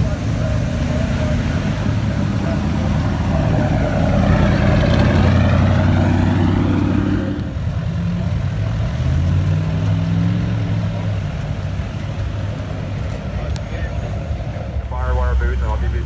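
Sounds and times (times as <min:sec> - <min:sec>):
truck engines running: 0:00.0 - 0:16.0.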